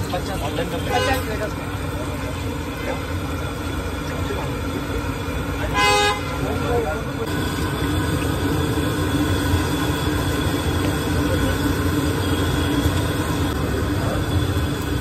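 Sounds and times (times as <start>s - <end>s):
gas burner rumbling: 0.0s - 15.0s
steady hum: 0.0s - 15.0s.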